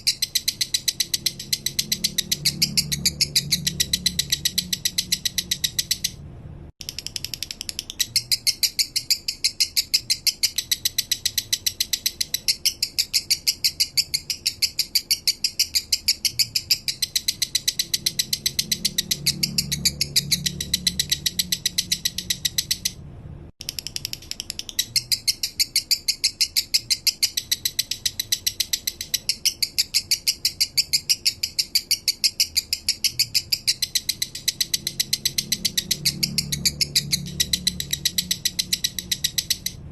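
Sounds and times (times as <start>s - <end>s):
lovebird rattling chirps: 0.0s - 6.2s, 6.8s - 23.0s, 23.6s - 39.8s.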